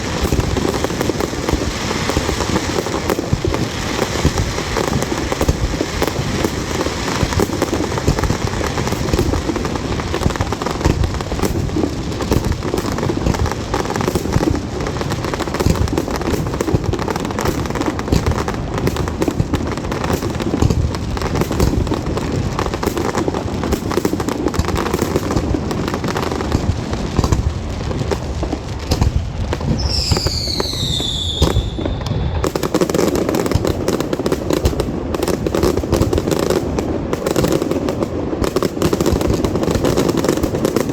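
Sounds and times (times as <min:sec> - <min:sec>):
firework bangs and crackling: 0:00.0 - 0:40.9
whistling firework: 0:00.0 - 0:40.9.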